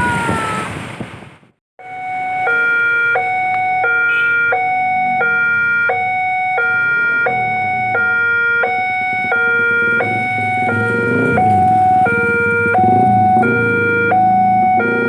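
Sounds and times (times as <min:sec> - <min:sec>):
two-tone level crossing alarm: 0:01.8 - 0:15.0.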